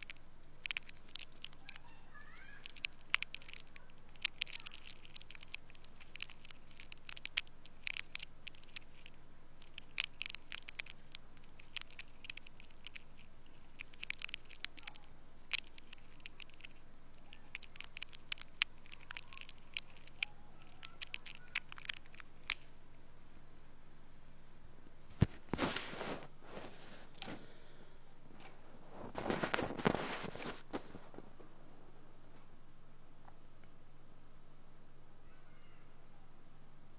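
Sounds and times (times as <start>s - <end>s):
faint low hum: 0.0s - 36.9s.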